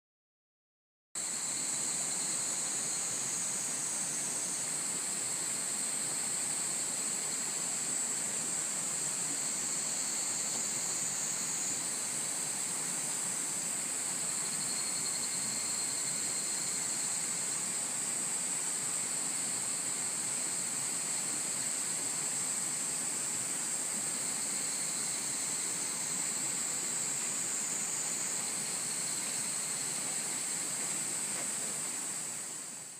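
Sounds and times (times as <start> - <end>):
cicadas chorus drone: 1.2 - 32.9.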